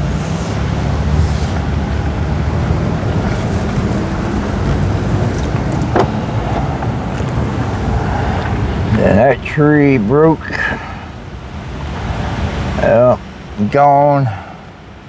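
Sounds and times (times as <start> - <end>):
vehicle engine rumble: 0.0 - 13.4
road noise: 0.0 - 15.0.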